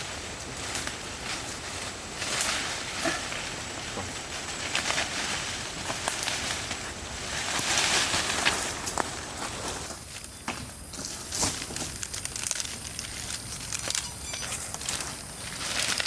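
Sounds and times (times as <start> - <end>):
dry vegetation rustling: 0.0 - 16.0.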